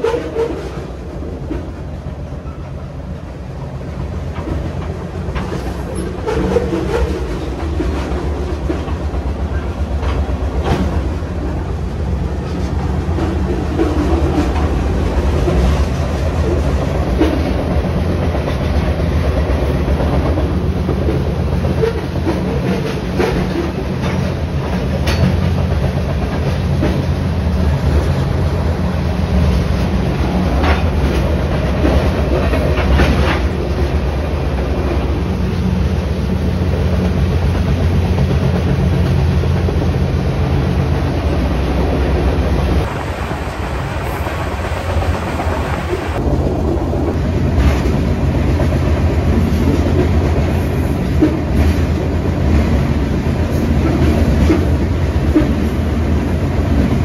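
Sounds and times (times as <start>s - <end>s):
clickety-clack and rattling: 0.0s - 57.0s
train wheels rumbling on rail: 0.0s - 57.0s.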